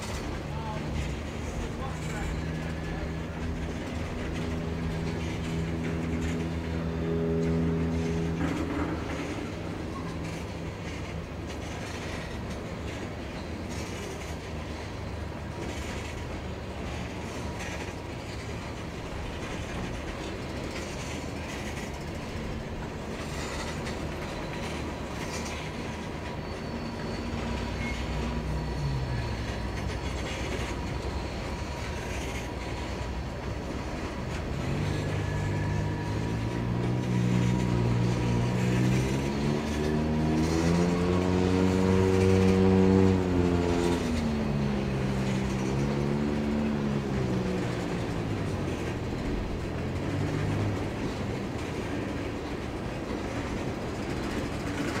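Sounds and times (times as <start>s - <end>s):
low engine drone: 0.0s - 12.3s, 18.4s - 54.9s
train wheels clattering on rails: 0.0s - 55.0s.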